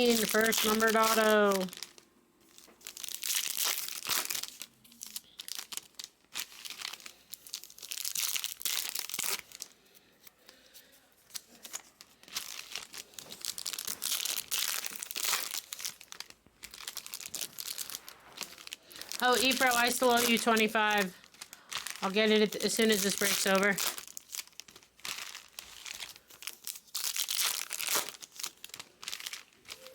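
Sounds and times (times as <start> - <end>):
foil wrappers crinkling and tearing: 0.0 - 29.9.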